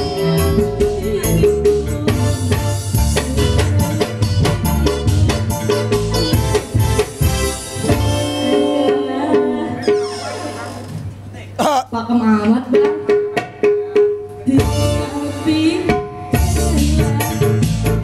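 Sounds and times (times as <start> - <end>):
hand drum and drum kit beat: 0.0 - 11.2, 12.2 - 18.0
keyboard melody: 0.0 - 11.2, 14.4 - 18.0.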